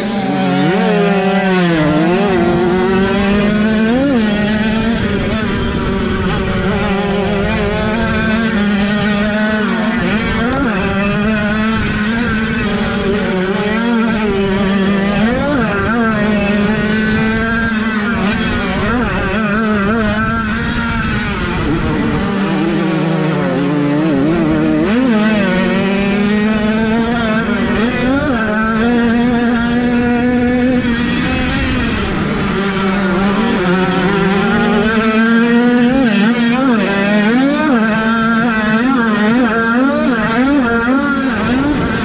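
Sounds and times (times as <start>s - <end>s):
motocross bike engines racing: 0.0s - 42.0s.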